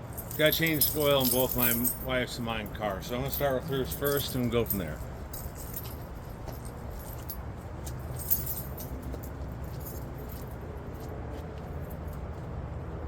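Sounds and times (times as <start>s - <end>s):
keys jingling: 0.0s - 10.6s.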